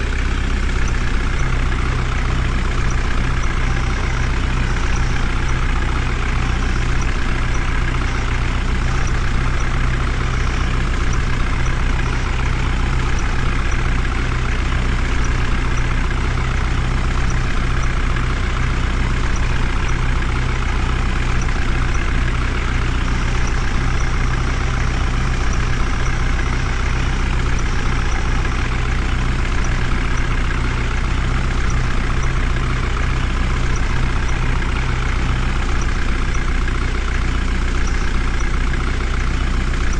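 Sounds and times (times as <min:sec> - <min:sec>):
heavy vehicle engine droning: 0:00.0 - 0:39.9.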